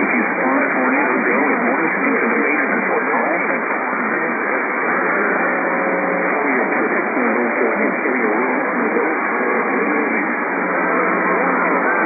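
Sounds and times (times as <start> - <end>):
faint garbled radio voice: 0.0 - 12.0
radio static hiss: 0.0 - 12.0.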